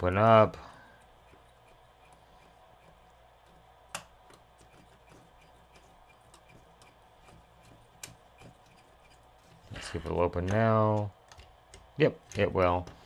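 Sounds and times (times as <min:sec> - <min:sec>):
cassette mechanism ticking and clicking: 0:01.0 - 0:13.0.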